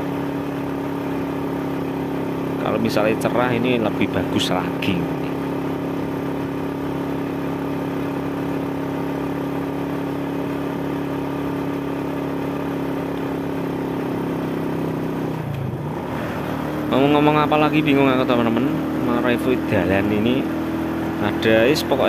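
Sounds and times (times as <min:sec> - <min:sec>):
motorcycle engine hum: 0:00.0 - 0:22.0
road and wind noise: 0:00.0 - 0:22.0.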